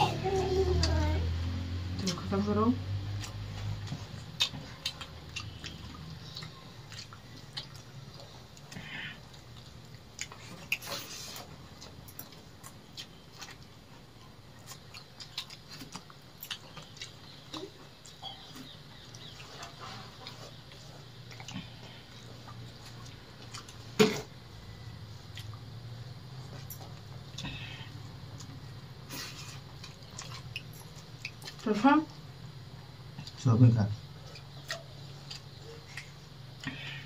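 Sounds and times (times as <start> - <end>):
close chewing and mouth sounds: 0.0 - 37.0
low steady hum: 0.0 - 37.0.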